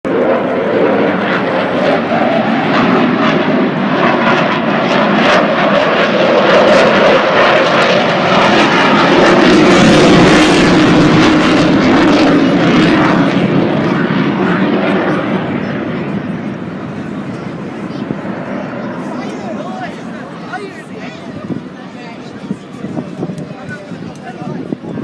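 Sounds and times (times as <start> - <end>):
aircraft engine flying past: 0.1 - 25.0.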